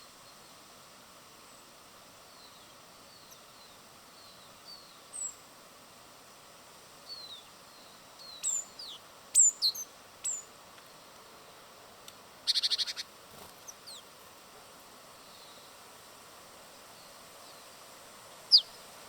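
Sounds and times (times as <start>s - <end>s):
songbirds chirping: 1.3s - 5.5s, 6.9s - 19.0s.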